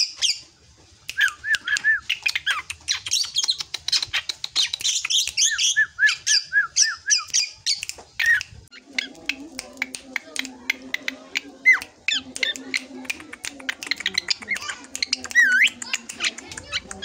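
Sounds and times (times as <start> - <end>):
bird chattering song: 1.0 - 17.0.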